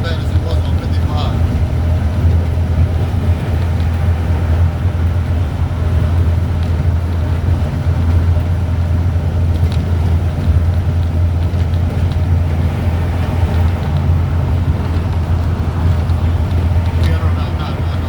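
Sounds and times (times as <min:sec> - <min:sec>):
heavy rain: 0:00.0 - 0:18.0
high wind rumble: 0:00.0 - 0:18.0.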